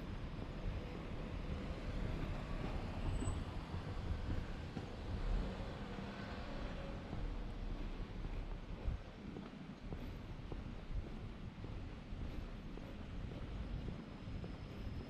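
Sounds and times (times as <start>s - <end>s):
faint street noise: 0.0s - 15.0s
vehicle engine rumbling: 0.0s - 15.0s.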